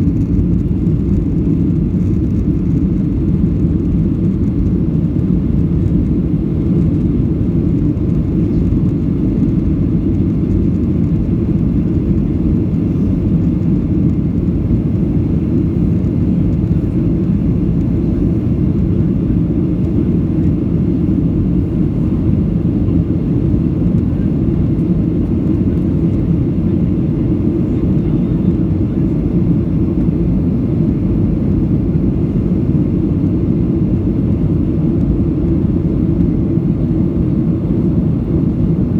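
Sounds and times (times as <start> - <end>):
jet airliner rumble in flight: 0.0 - 38.9.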